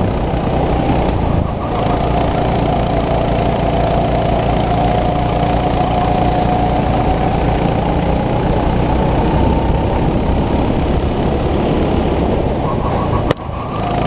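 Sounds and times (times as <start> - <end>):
kart engine under throttle: 0.0 - 14.0
wind noise on microphone: 0.0 - 14.0.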